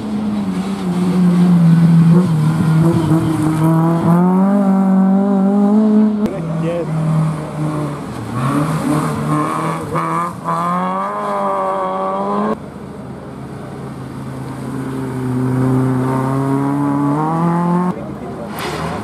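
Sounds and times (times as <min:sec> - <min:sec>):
rally car engines under hard throttle: 0:00.0 - 0:19.0.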